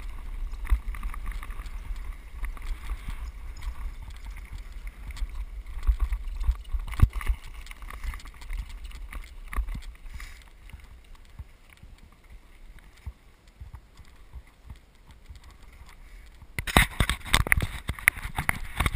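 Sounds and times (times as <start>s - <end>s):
bike rattles and knocks: 0.0s - 11.5s, 12.8s - 18.9s
bike tyres crunching over gravel: 0.0s - 18.9s.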